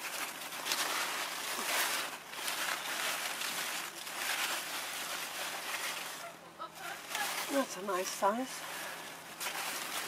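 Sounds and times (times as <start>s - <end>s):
leaves rustling: 0.0s - 10.0s.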